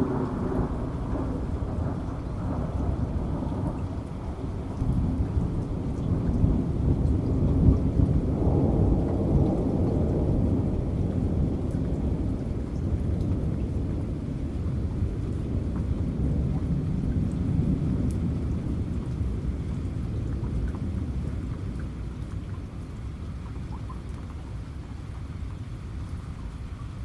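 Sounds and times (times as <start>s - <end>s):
low rolling thunder: 0.0s - 23.0s
faint raindrop ticks: 0.0s - 27.0s
steady rain: 0.0s - 27.0s.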